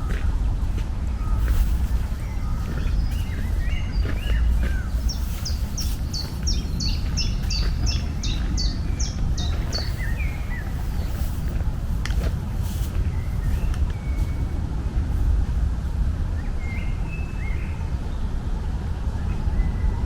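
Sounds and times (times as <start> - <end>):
low outdoor rumble: 0.0 - 20.0
songbird singing: 0.0 - 20.0.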